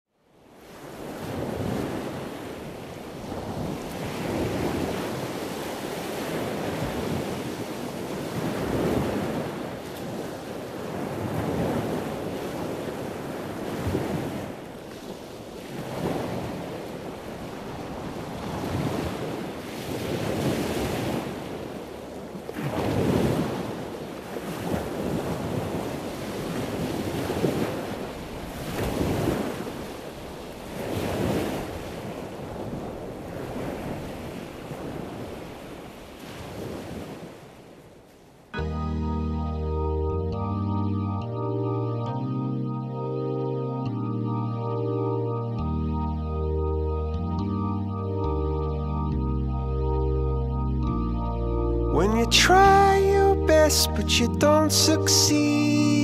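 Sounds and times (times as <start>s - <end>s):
ocean waves washing in: 0.3s - 41.8s, 48.3s - 56.0s.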